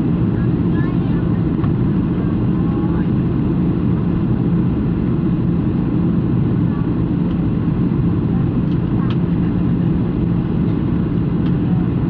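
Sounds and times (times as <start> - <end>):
aircraft engine rumble: 0.0 - 12.0.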